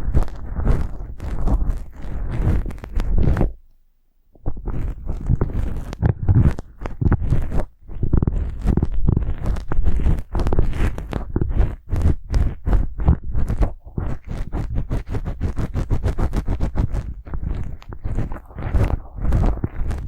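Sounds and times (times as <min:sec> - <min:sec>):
bristle brush scratching: 0:00.0 - 0:03.5, 0:04.4 - 0:20.0.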